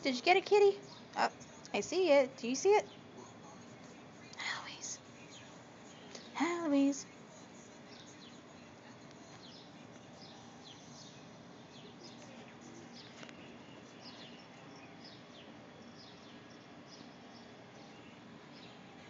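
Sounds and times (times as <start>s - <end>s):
outdoor background hiss: 0.0s - 19.0s
distant birds chirping: 0.1s - 19.0s.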